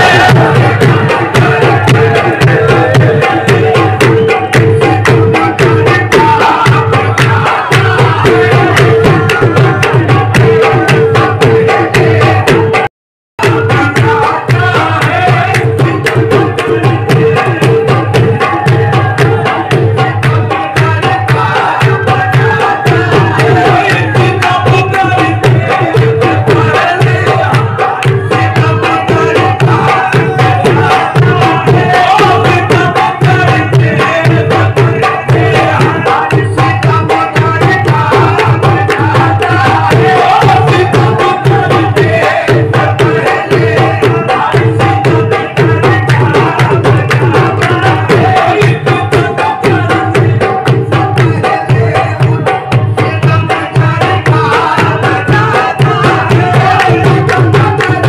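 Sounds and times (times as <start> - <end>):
rapid tabla drumming: 0.0 - 58.0.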